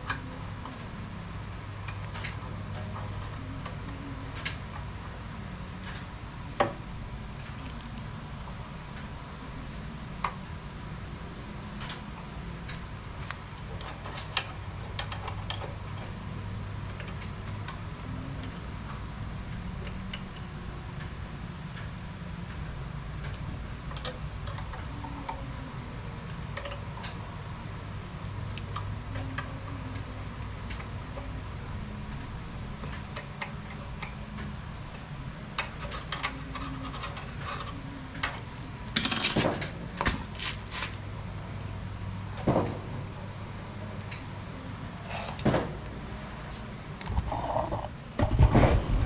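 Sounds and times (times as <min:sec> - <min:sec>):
low motor hum: 0:00.0 - 0:39.0, 0:39.6 - 0:49.0.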